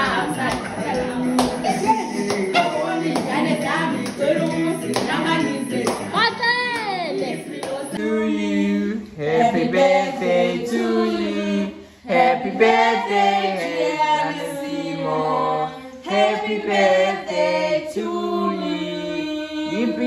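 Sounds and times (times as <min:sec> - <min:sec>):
people singing together: 0:00.0 - 0:20.0.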